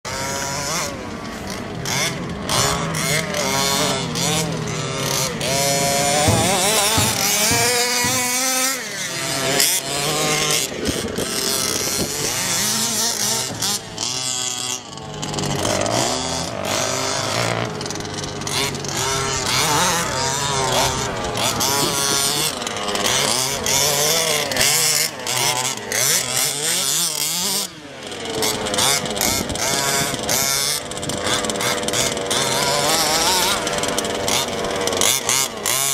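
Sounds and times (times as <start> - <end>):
small two-stroke engine revving: 0.0 - 35.9.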